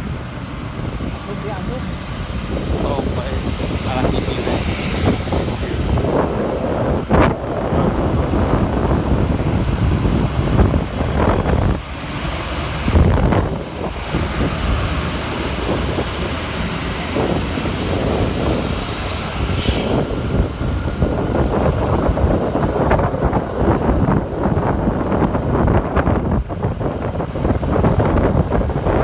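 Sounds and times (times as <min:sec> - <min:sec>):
road traffic rumbling: 0:00.0 - 0:29.0
wind buffeting microphone: 0:00.0 - 0:29.0.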